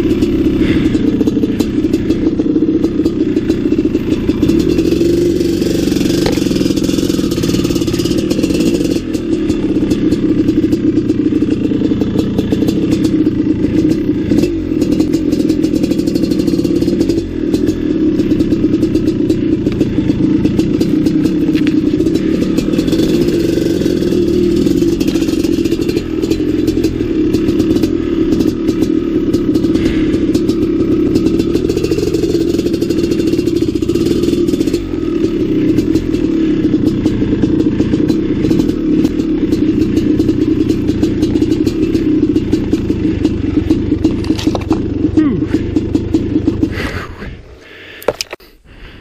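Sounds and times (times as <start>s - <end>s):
dirt bike engine at low revs: 0.0s - 49.0s.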